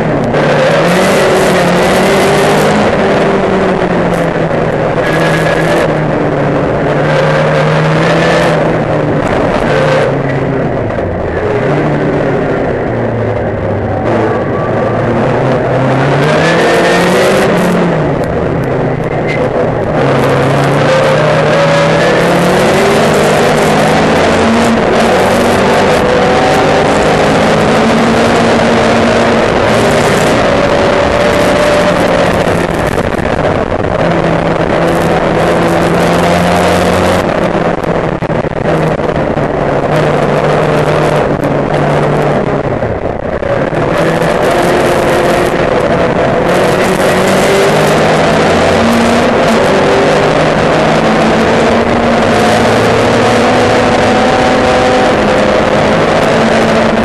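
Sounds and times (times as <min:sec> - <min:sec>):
racing car engine changing gear: 0:00.0 - 0:57.0
wind and road rush: 0:00.0 - 0:57.0.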